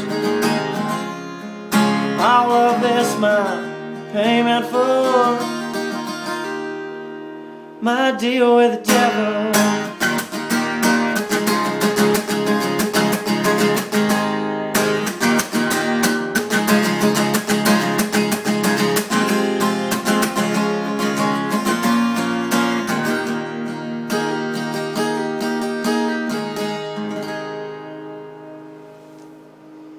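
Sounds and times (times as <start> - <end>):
acoustic guitar strumming chords: 0.0 - 29.9.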